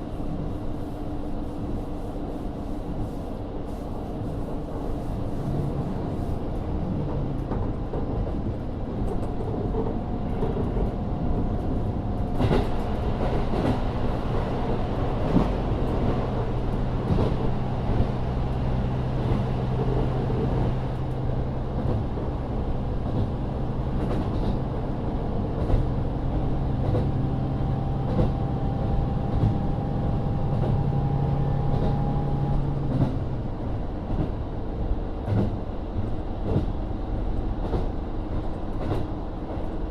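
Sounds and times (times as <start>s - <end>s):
railcar diesel engine running: 0.0s - 39.9s.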